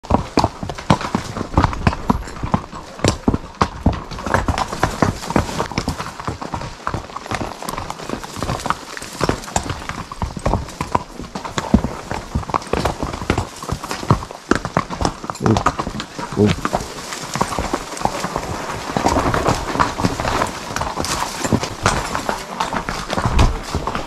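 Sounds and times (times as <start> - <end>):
hooves clip-clopping on rocky trail: 0.0 - 24.0.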